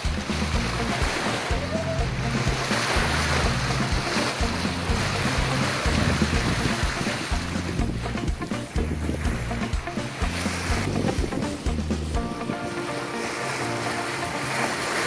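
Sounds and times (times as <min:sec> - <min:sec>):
background music with bass line: 0:00.0 - 0:15.0
sea water: 0:00.0 - 0:15.0
wind: 0:00.0 - 0:15.0.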